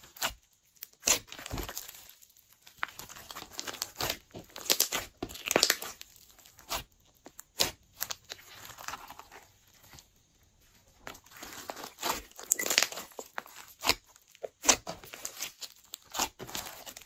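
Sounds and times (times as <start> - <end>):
slime crackling and popping: 0.0 - 10.1, 11.0 - 17.0.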